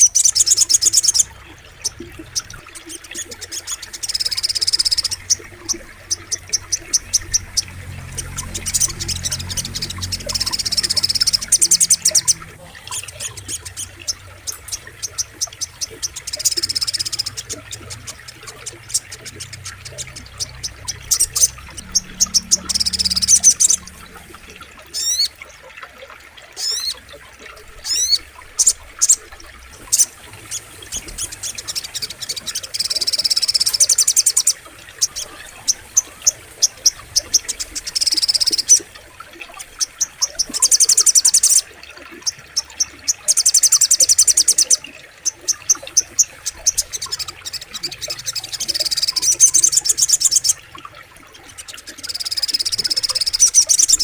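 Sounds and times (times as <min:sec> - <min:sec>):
bird trilling and chirping: 0:00.0 - 0:25.4, 0:30.9 - 0:41.6, 0:42.2 - 0:50.6, 0:51.4 - 0:54.0.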